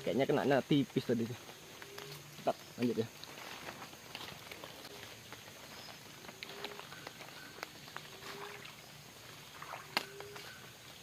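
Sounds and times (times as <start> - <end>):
soft steady hiss: 0.0 - 11.0.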